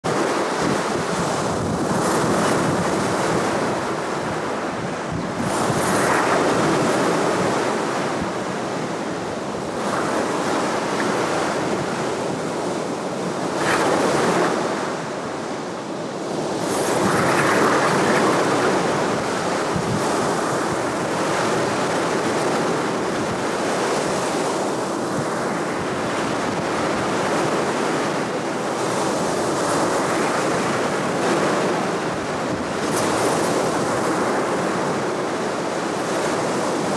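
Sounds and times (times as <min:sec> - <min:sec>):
surf washing on pebble beach: 0:00.1 - 0:36.9.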